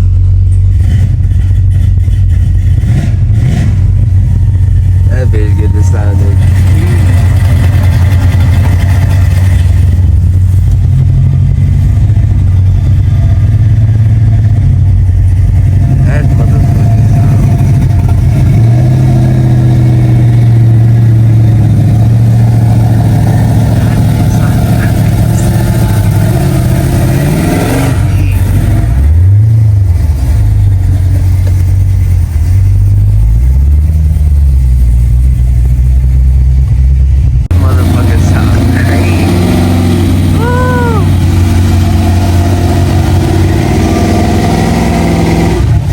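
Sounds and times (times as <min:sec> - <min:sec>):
engine exhaust drone: 0:00.0 - 0:45.9.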